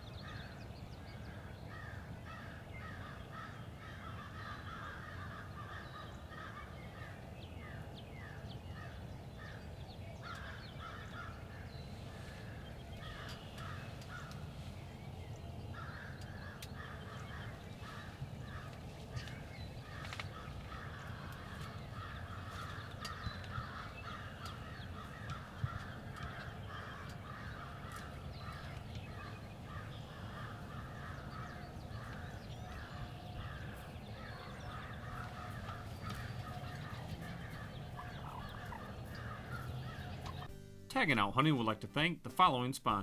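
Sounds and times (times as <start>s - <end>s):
birds calling: 0.0s - 40.6s
low steady rumble: 5.3s - 40.5s.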